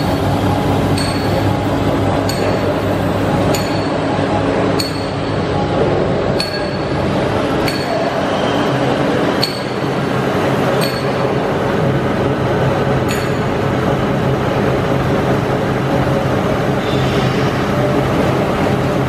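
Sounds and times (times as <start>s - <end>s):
printing press humming: 0.0s - 19.0s.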